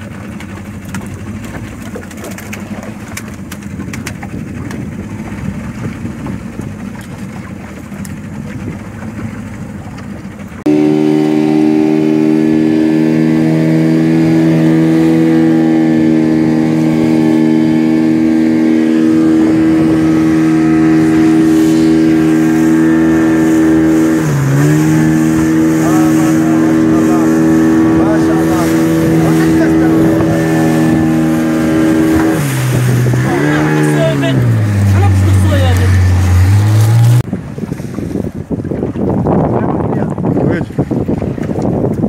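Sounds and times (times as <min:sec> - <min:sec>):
outboard motor running: 0:00.0 - 0:42.0
sea: 0:00.0 - 0:42.0
wind: 0:00.0 - 0:42.0.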